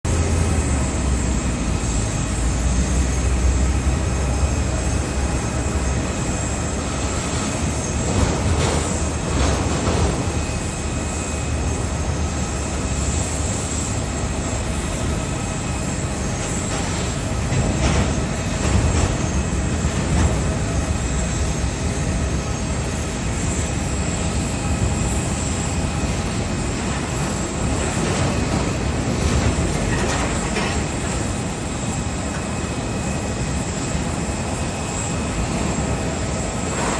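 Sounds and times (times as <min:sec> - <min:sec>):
jet turbine whine: 0:00.0 - 0:36.9.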